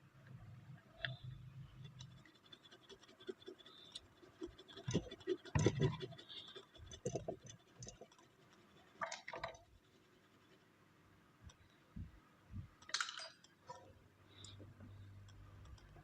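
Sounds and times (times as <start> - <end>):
faint low steady hum: 0.0 - 16.0
small parts clicking and scraping: 0.9 - 10.6, 12.8 - 16.0.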